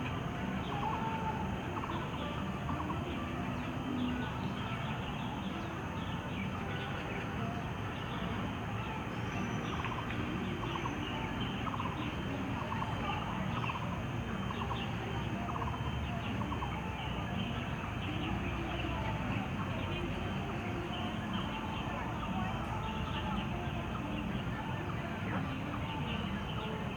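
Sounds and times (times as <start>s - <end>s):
steady background noise: 0.0s - 26.9s.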